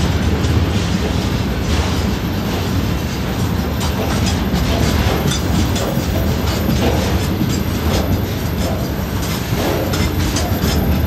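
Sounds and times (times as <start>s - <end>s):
freight train wheels rumbling: 0.0s - 11.0s
train wheels clicking: 0.0s - 11.0s.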